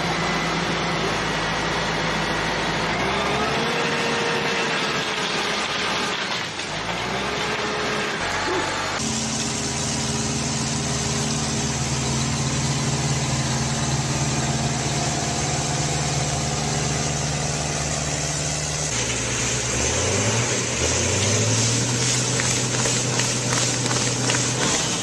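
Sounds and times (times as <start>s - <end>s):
harvester engine running: 0.0s - 25.0s.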